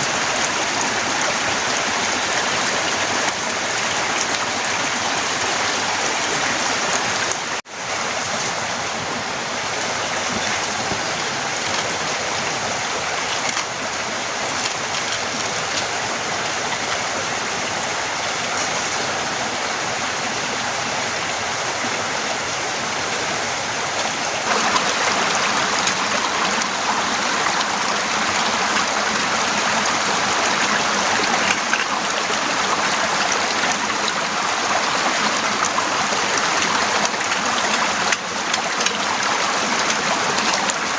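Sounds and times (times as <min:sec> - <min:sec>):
torrential rain: 0:00.0 - 0:40.9.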